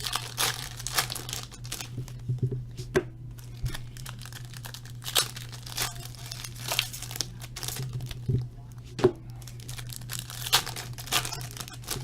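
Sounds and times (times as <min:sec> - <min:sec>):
plastic wrapping crinkling and tearing: 0:00.0 - 0:02.3, 0:03.4 - 0:08.5, 0:09.3 - 0:12.0.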